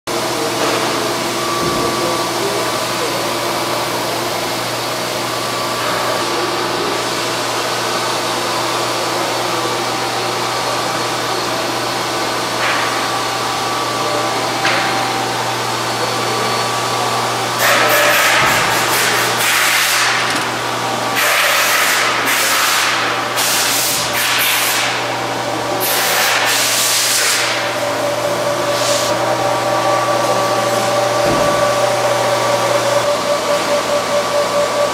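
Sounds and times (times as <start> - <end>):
packaging machine humming: 0.1 - 34.9.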